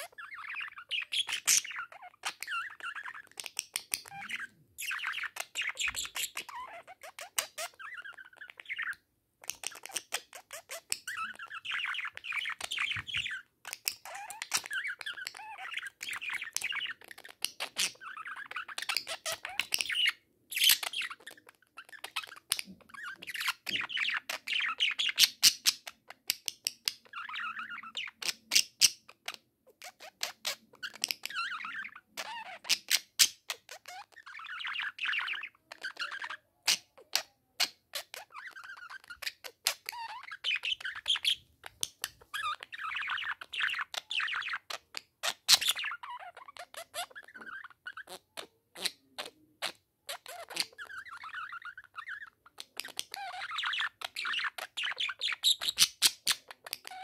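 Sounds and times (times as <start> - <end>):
budgerigars warbling and chattering: 0.0 - 57.0.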